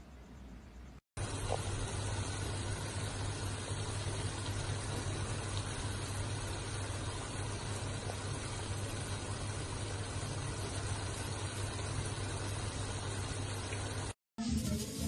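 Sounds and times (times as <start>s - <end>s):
pot steaming with steady hiss: 1.2s - 15.0s.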